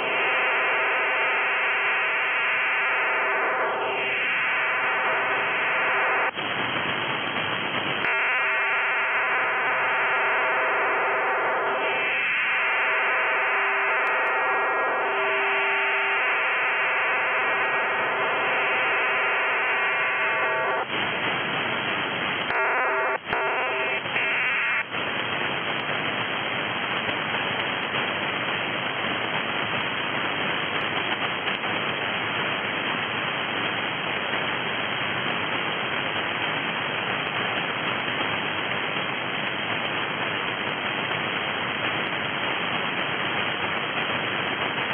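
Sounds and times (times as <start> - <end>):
multi-tone modem data signal: 0.0 - 44.9
radio static hiss: 0.0 - 44.9.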